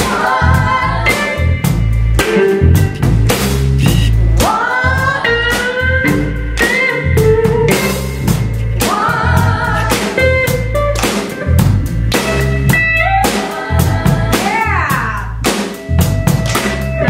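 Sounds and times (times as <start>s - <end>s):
electric guitar: 0.0s - 14.3s, 15.7s - 17.0s
drum kit beat: 0.0s - 17.0s
electric bass: 0.0s - 17.0s.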